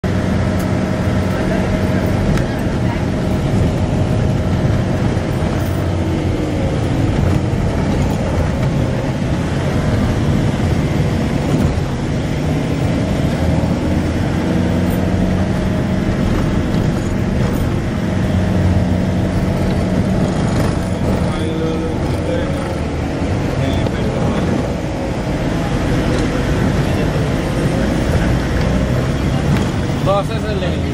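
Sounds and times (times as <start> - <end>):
vehicle engine and road noise: 0.0 - 30.9.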